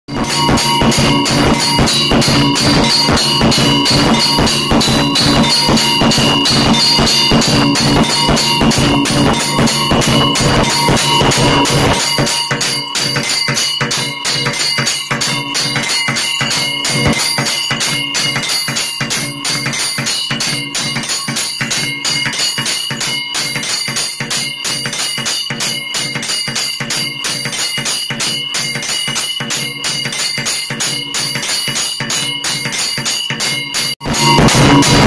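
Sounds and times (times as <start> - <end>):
brass bells ringing rapidly: 0.1 - 35.0
drum beats: 0.1 - 35.0.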